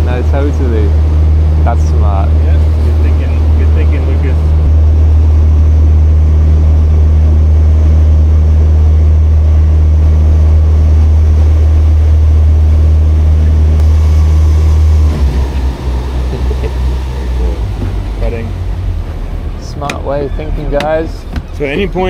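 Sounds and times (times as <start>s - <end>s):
boat engine deep hum: 0.0s - 22.0s
low uneven rumble: 0.0s - 22.0s.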